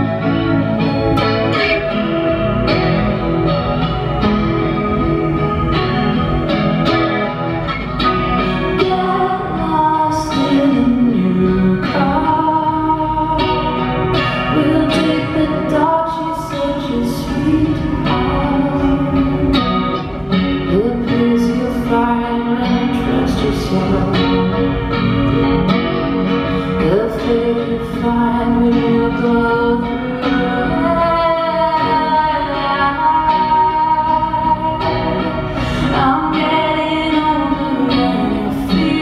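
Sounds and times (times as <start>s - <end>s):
live band playing: 0.0s - 39.0s
person singing: 0.0s - 39.0s.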